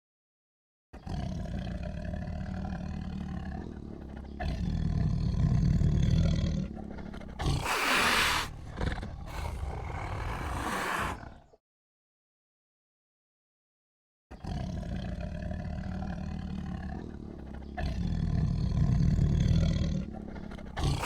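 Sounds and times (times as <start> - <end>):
big cat roaring: 1.0 - 11.6, 14.4 - 21.0.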